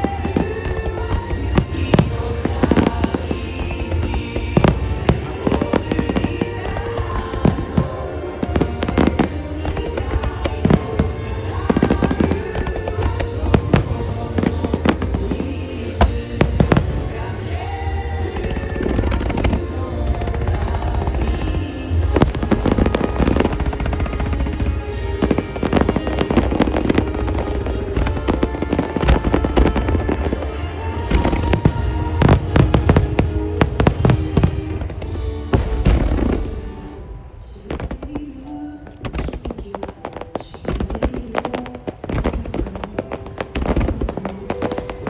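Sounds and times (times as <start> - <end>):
fireworks bursting: 0.0 - 45.0
pop song over loudspeakers: 0.0 - 45.0.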